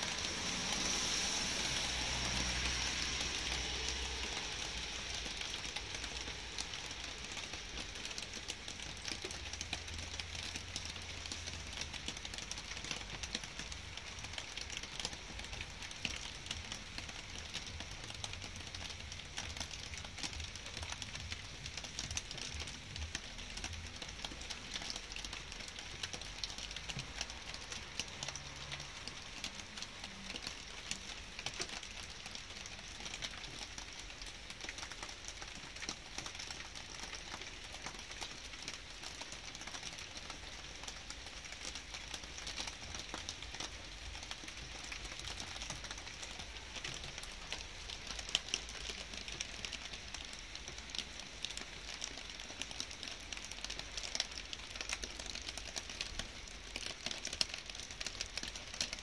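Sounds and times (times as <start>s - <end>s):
light rain hissing: 0.0s - 59.0s
raindrops ticking: 0.0s - 59.0s.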